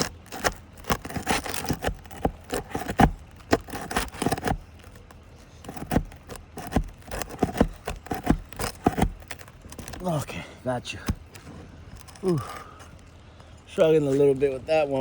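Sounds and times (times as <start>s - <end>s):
pry tool scraping under shingles: 0.0s - 13.1s.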